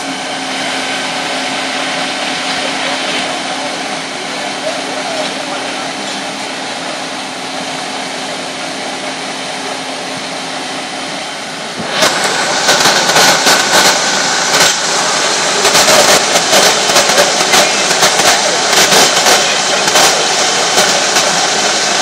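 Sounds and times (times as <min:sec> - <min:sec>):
loud crackling rushing noise: 0:00.0 - 0:08.1, 0:08.7 - 0:22.0
fire engines idling: 0:00.0 - 0:22.0.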